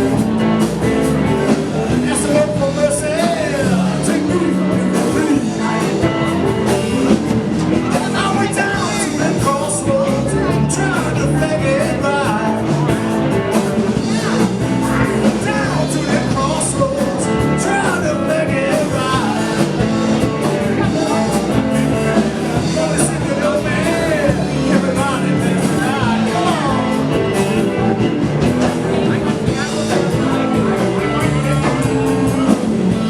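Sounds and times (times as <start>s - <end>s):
live blues band playing: 0.0s - 33.0s
person singing: 0.0s - 33.0s.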